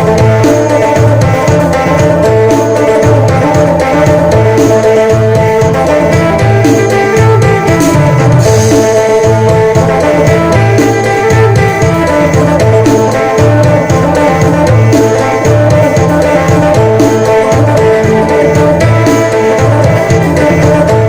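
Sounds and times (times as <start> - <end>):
plucked lute melody: 0.0 - 21.0
repeating bass notes: 0.0 - 21.0
steady drum beat: 0.0 - 21.0.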